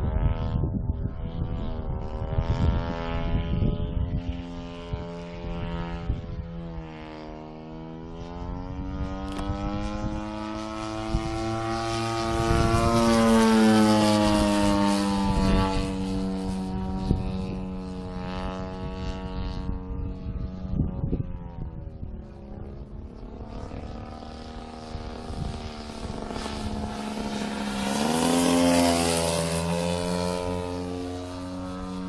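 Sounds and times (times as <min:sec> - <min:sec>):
model plane engine buzzing: 0:00.0 - 0:32.0.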